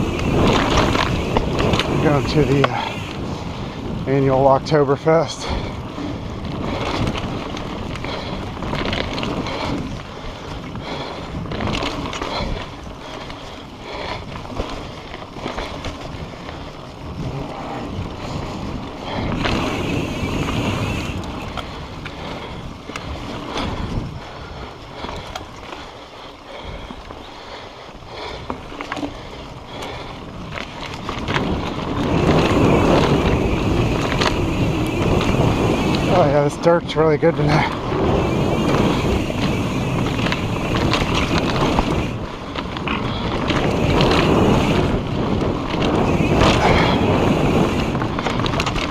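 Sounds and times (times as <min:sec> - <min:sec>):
wind rushing over microphone: 0:00.0 - 0:25.8, 0:29.2 - 0:48.9
bike clicks and rattles: 0:00.0 - 0:48.9.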